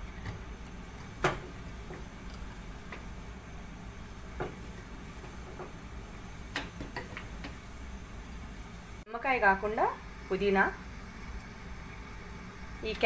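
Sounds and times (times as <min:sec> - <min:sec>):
water boiling in a pot: 0:00.0 - 0:13.0.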